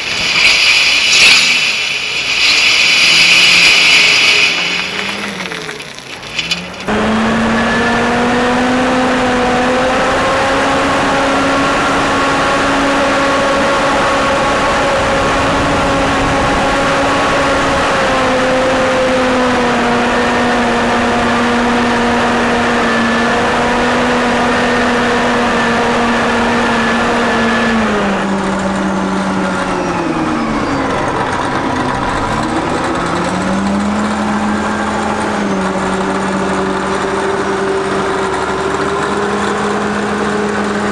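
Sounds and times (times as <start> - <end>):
diesel engine running hard: 0.0 - 40.9.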